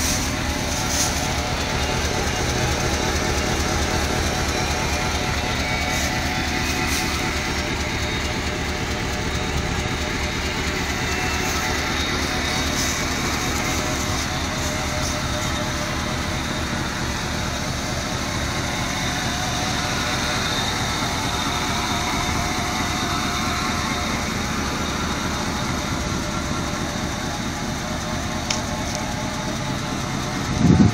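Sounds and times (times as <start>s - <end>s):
truck engine idling: 0.0s - 30.9s.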